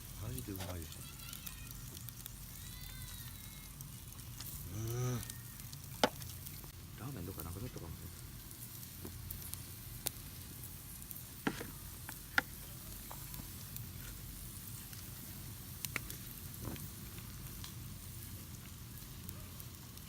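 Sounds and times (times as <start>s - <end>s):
food sizzling on grill: 0.0s - 20.0s
sharp pops and crackles: 0.0s - 20.0s.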